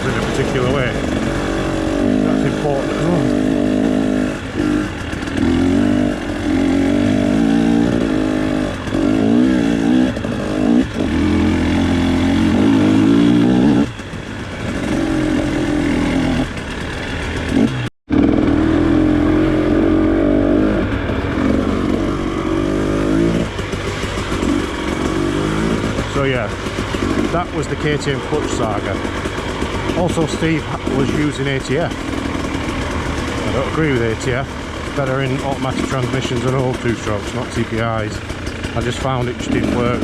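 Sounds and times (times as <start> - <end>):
two-stroke motorcycle engine revving: 0.0 - 40.0.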